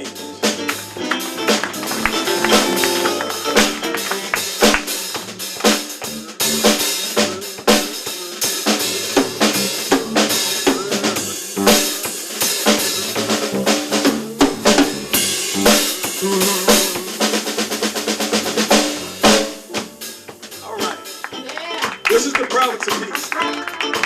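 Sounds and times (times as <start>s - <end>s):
drum kit playing: 0.0s - 24.0s
pitched notes: 0.0s - 24.0s.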